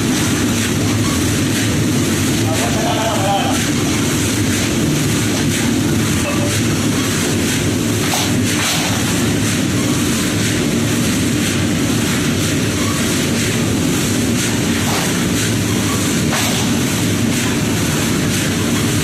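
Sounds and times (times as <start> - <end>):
furnace burner roaring: 0.0 - 19.0.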